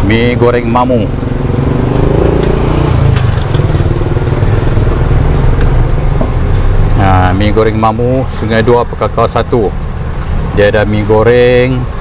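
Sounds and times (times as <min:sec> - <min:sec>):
road traffic rumble: 0:00.0 - 0:12.0
vehicle engine: 0:00.0 - 0:12.0.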